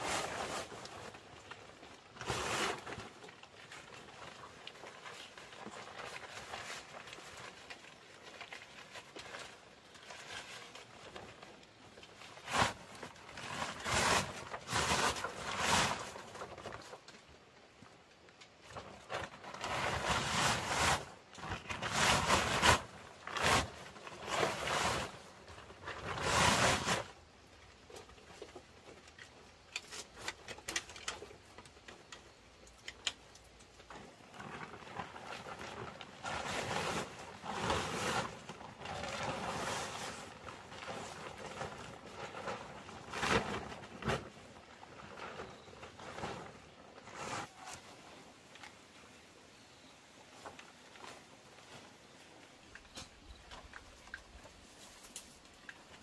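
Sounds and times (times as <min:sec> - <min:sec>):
plastic tarpaulin rustling: 0:00.0 - 0:56.0.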